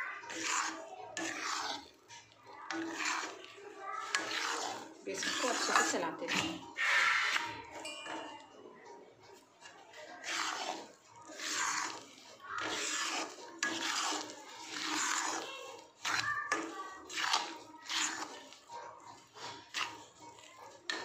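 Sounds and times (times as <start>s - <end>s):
spatula scraping metal pan: 0.0s - 21.0s.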